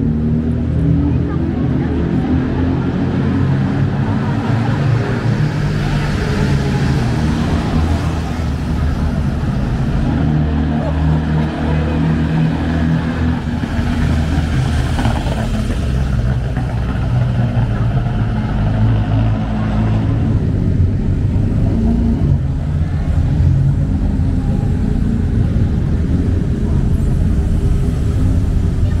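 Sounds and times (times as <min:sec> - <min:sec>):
vintage car engines running: 0:00.0 - 0:29.0.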